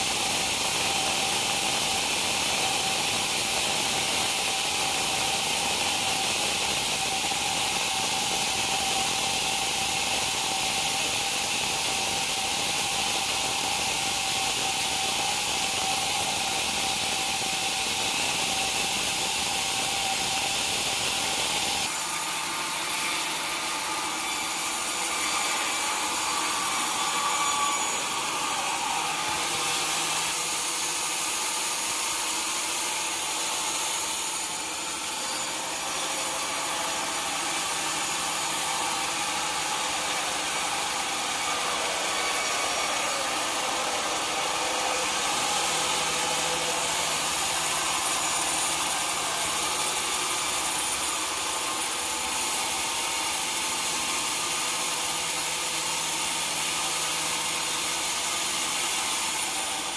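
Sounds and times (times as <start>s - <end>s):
mill machinery running: 0.0s - 59.9s
saw cutting through log: 0.0s - 59.9s.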